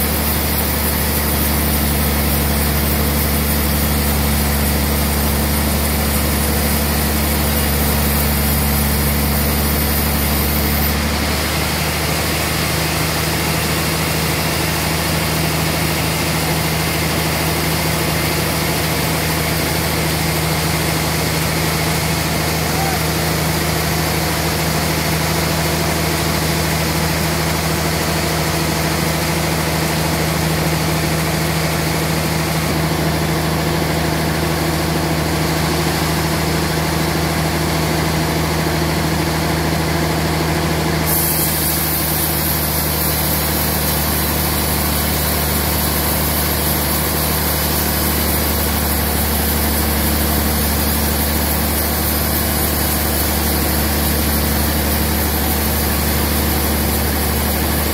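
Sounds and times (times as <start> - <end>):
log saw running: 0.0 - 57.9.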